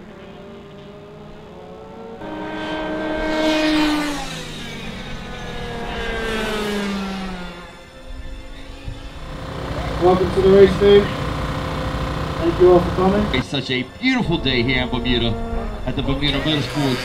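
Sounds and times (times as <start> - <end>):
go-kart engines passing: 0.0 - 17.0
low engine drone: 0.0 - 17.0.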